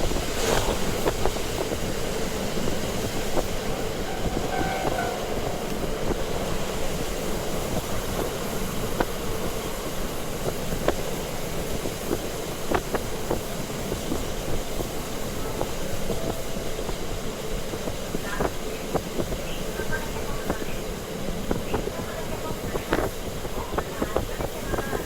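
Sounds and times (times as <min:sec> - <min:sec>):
railcar engine and wheels rumbling: 0:00.0 - 0:25.0.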